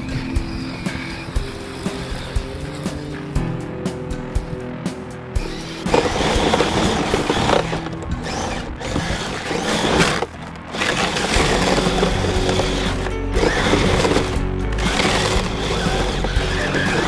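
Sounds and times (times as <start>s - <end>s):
toy electric motor and gearbox: 0.0s - 3.4s, 5.4s - 17.0s
music playing: 0.0s - 17.0s.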